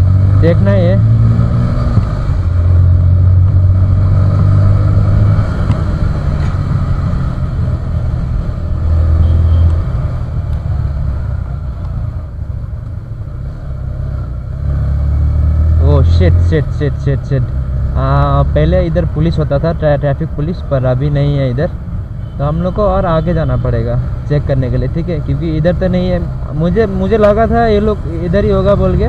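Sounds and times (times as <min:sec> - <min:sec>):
motorcycle engine drone: 0:00.0 - 0:29.0.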